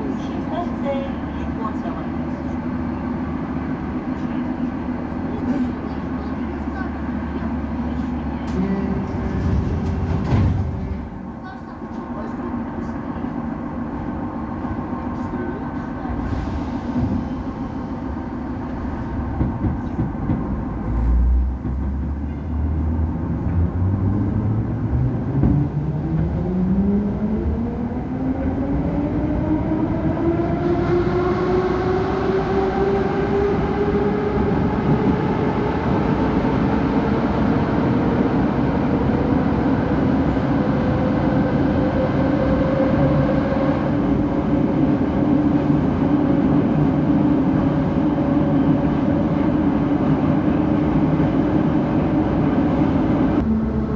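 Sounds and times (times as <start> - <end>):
metro train motors whining: 0.0 - 53.9.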